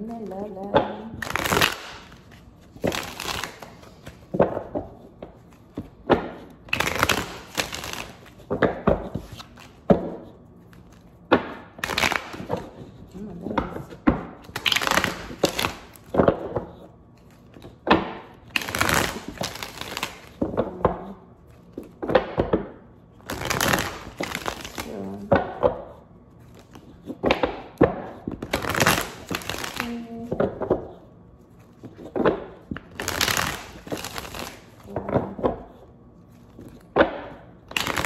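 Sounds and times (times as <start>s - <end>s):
cards being shuffled: 0.0s - 22.5s, 23.2s - 38.0s.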